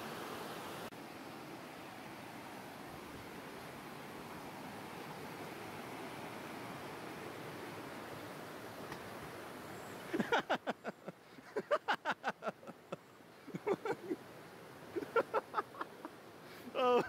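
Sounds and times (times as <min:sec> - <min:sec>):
stream white water rushing: 0:00.0 - 0:17.0.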